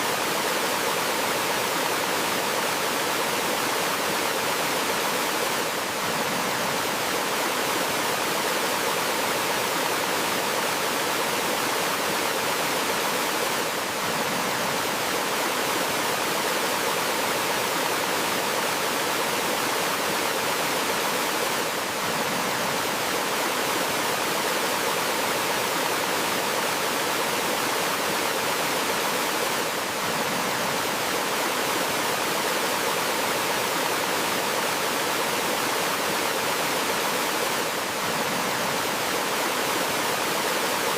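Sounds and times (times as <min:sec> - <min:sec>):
stream and small waterfall rushing: 0:00.0 - 0:40.9.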